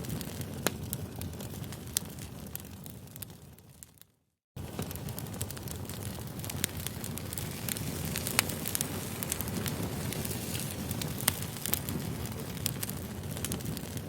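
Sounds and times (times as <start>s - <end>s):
campfire burning with low rush: 0.0s - 14.0s
fire crackles and pops: 0.0s - 14.0s.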